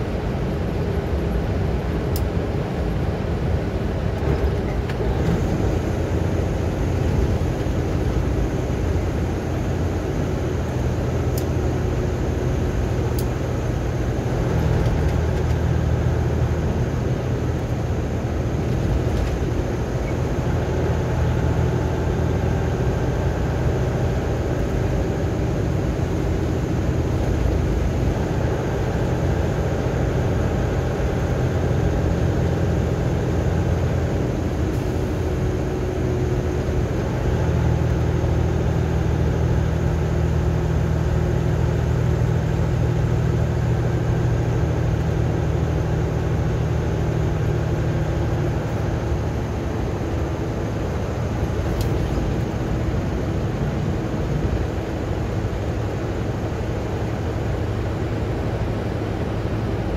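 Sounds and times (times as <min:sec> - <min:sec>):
vehicle cruising at highway speed: 0:00.0 - 0:59.9.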